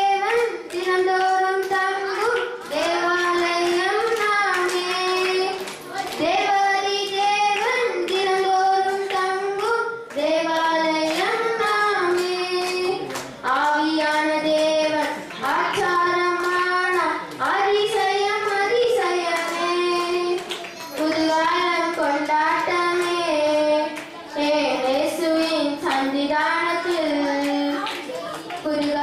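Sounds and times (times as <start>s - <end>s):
children singing: 0.0s - 29.0s
hand claps: 0.0s - 29.0s.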